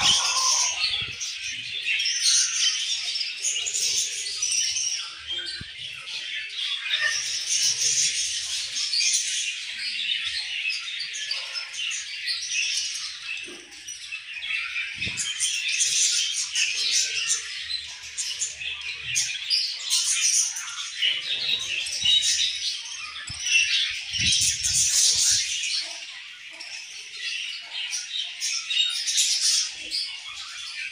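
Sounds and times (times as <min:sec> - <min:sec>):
budgerigars chirping and warbling: 0:00.0 - 0:30.9.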